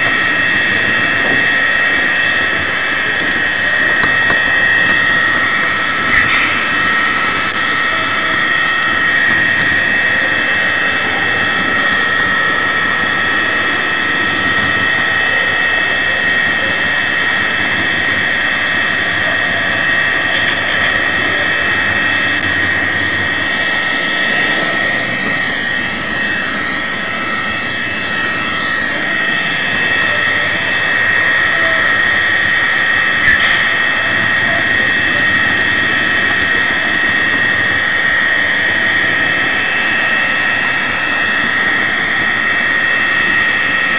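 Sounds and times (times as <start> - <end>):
model locomotive whine: 0.0 - 43.9
train rolling on track: 0.0 - 43.9.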